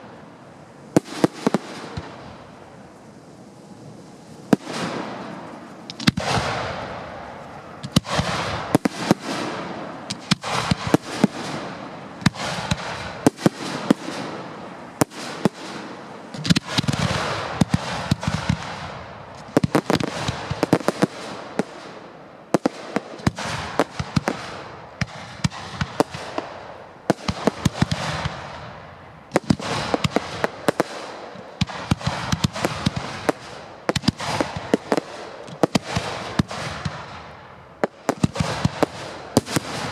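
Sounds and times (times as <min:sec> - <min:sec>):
fireworks bursting with bangs: 0:00.0 - 0:39.9
fireworks crackling hiss: 0:00.0 - 0:39.9.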